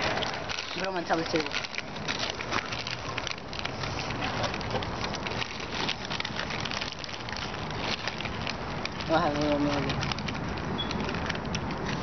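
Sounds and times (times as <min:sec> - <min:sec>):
foil chip bags crinkling: 0:00.0 - 0:12.0.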